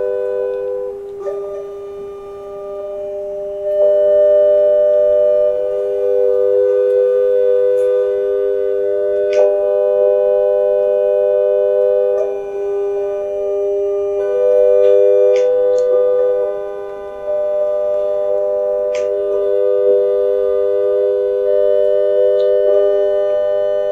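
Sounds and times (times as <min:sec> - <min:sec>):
steady sine tone chord: 0:00.0 - 0:23.9.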